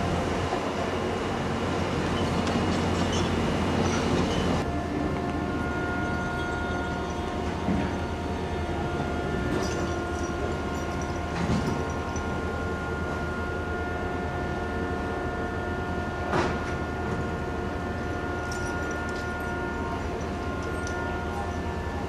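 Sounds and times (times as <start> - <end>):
construction machinery diesel hum: 0.0 - 22.0
high-pitched machine whine: 0.0 - 22.0.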